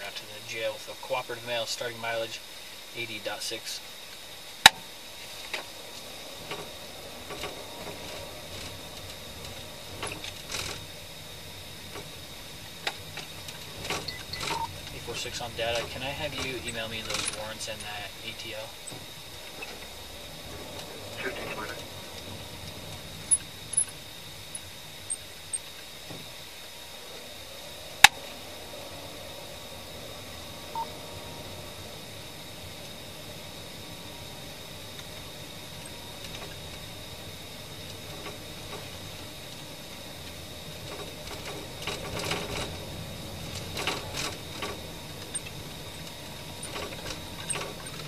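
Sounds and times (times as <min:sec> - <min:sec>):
car engine and road hum: 0:00.0 - 0:48.0
thin high whine: 0:00.0 - 0:48.0.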